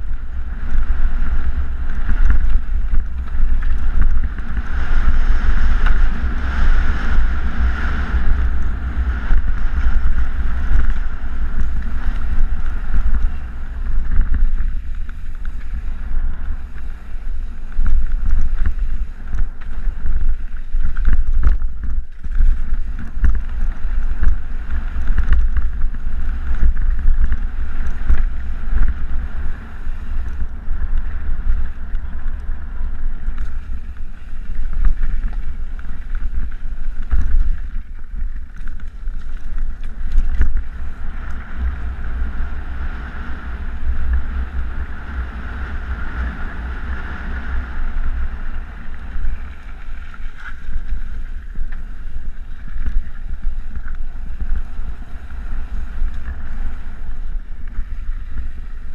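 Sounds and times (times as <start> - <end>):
bike tyres rolling over gravel: 0.0 - 58.9
wind buffeting microphone: 0.0 - 58.9.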